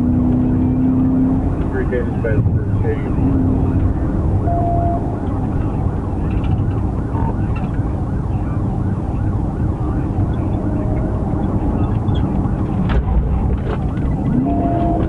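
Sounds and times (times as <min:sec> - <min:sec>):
car engine and road noise: 0:00.0 - 0:15.0
faint police siren: 0:00.2 - 0:15.0.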